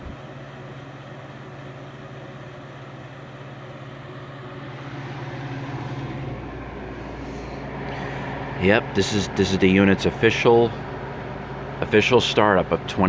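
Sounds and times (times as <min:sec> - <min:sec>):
dehumidifier humming: 0:00.0 - 0:13.0.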